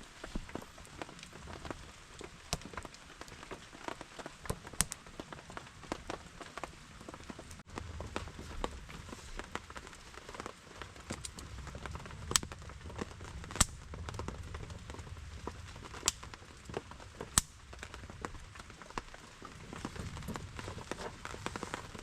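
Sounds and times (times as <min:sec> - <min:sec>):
campfire wood crackling: 0:00.0 - 0:22.0
rain pattering: 0:00.0 - 0:22.0.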